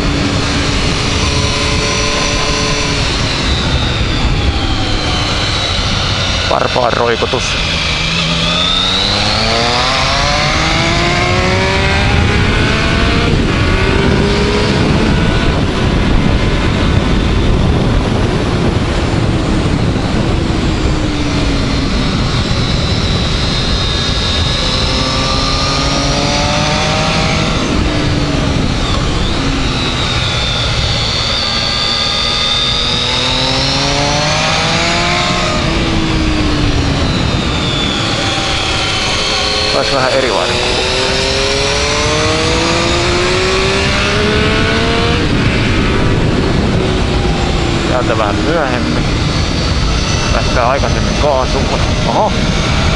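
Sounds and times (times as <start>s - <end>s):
motorcycle engine accelerating: 0.0s - 52.9s
wind rush on microphone: 0.0s - 52.9s.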